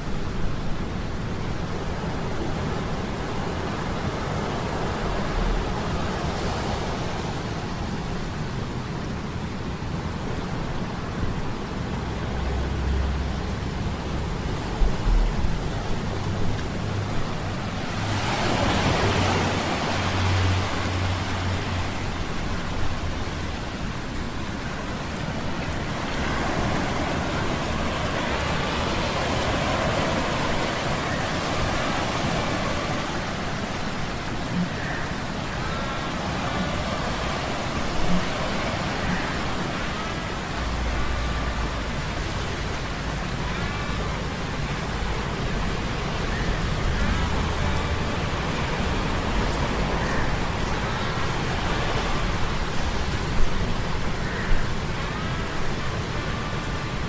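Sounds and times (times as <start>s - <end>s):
stormy sea rushing: 0.0s - 57.0s.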